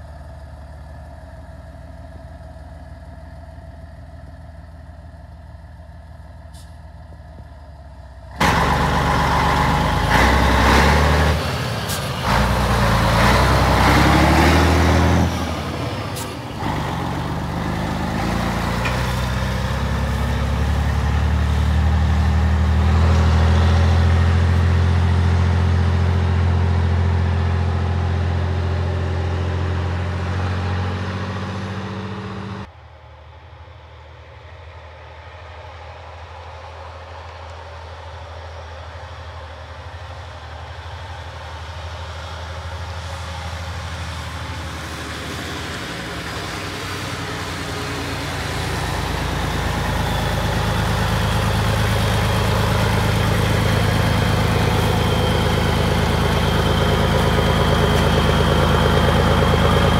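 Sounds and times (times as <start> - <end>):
diesel truck engine: 0.0 - 59.9.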